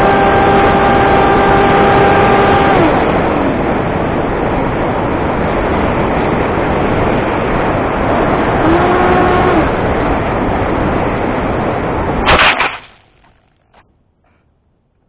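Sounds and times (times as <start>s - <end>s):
wind rushing over camera: 0.0s - 14.9s.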